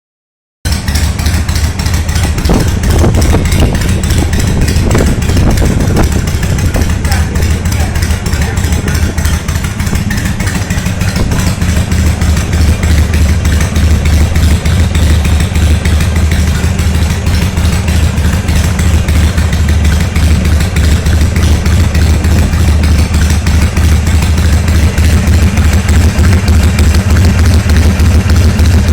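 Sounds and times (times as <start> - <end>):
motorcycle engine idling: 0.7 - 28.9.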